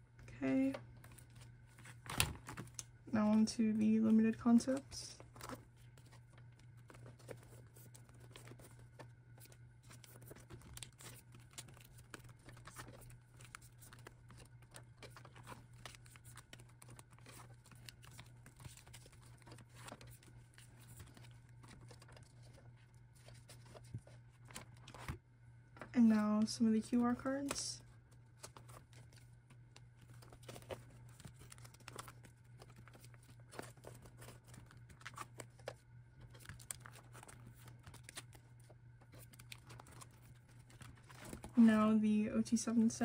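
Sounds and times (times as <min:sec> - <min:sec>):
low steady hum: 0:00.0 - 0:43.0
thin plastic rustling and crinkling: 0:03.7 - 0:25.2, 0:28.4 - 0:41.6.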